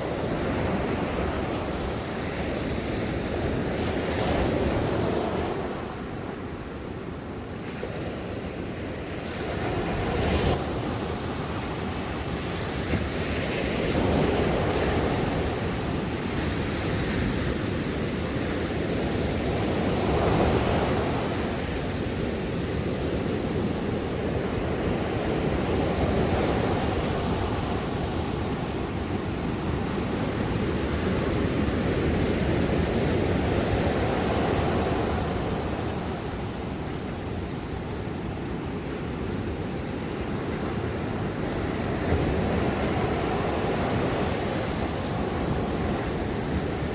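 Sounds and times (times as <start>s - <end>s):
ocean waves washing onto beach: 0.0s - 46.9s.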